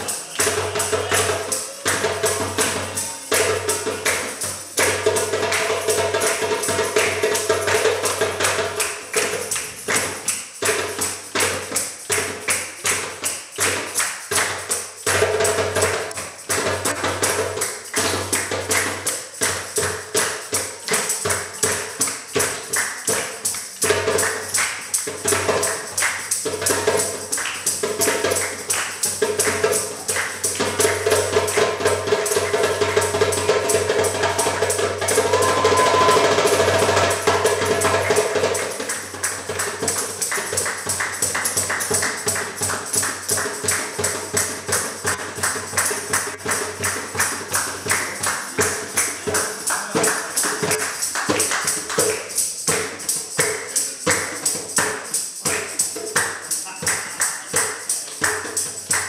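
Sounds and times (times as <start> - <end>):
hand drum: 0.0 - 59.0
tambourine jingling: 0.0 - 59.0.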